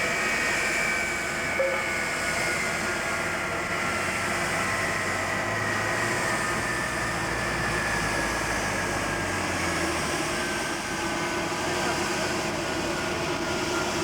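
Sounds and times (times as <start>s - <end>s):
jet engines running with whine: 0.0s - 14.0s.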